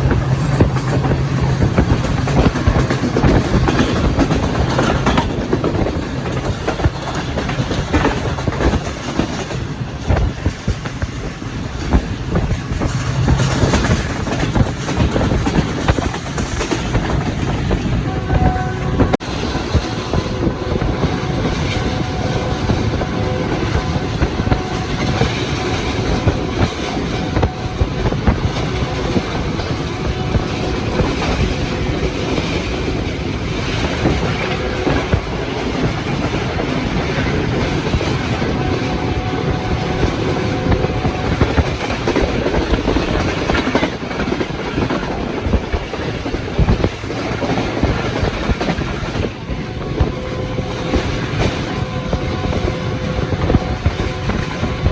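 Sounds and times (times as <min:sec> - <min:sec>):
train wheels clattering: 0:00.0 - 0:18.2, 0:18.9 - 0:54.9
train running gear rumble: 0:00.0 - 0:54.9.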